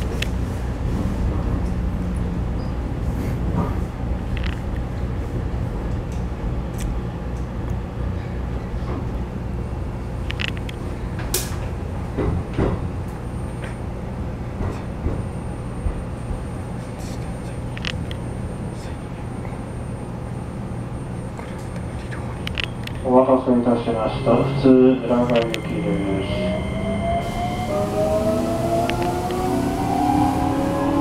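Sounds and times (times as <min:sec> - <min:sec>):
train interior rumble and hum: 0:00.0 - 0:31.0.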